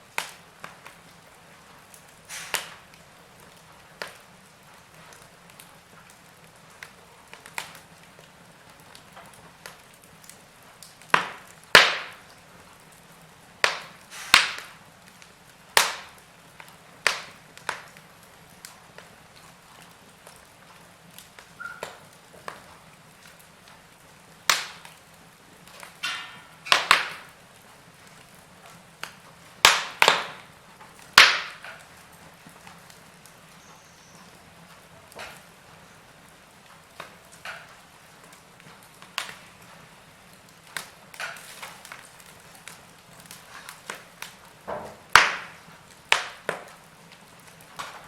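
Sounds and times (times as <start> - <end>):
faint steady hiss: 0.0 - 48.0
wood fire crackling: 0.0 - 48.0.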